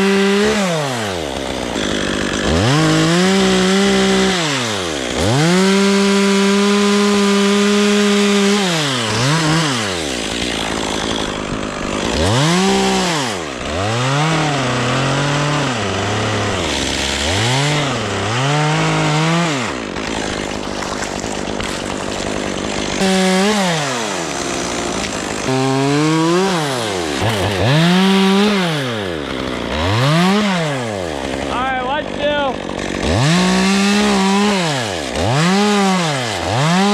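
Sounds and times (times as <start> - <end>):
chainsaw revving: 0.0 - 36.9.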